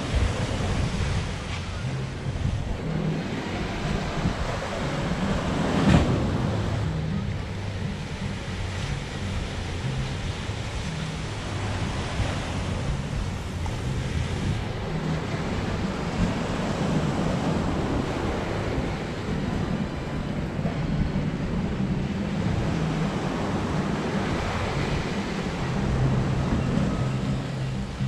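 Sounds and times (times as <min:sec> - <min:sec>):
waves breaking on shore: 0:00.0 - 0:28.0
wind buffeting microphone: 0:00.0 - 0:28.0.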